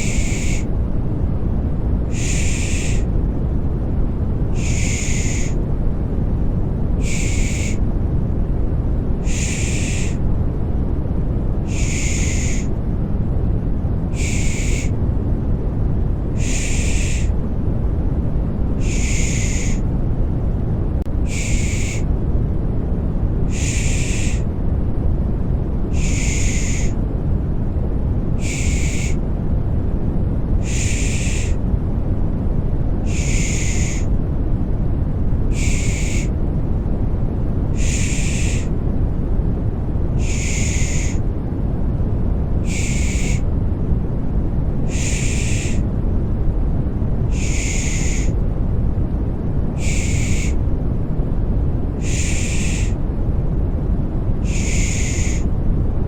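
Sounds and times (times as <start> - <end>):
deep white-noise rumble: 0.0 - 56.0.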